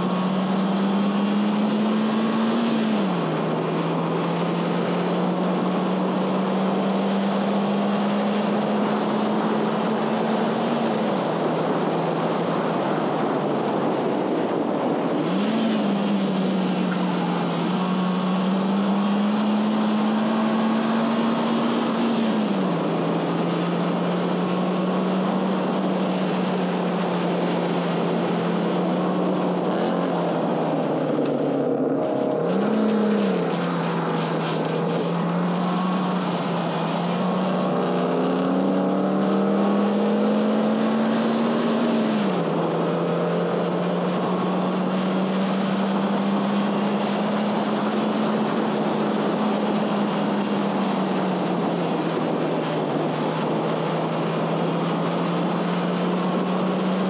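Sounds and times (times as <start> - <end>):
car engine revving high: 0.0 - 57.0
wind and tyre noise: 0.0 - 57.0.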